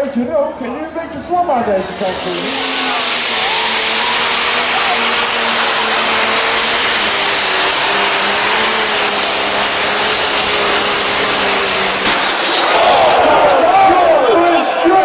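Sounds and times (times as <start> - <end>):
loud vehicle engine flat out: 1.3 - 15.0.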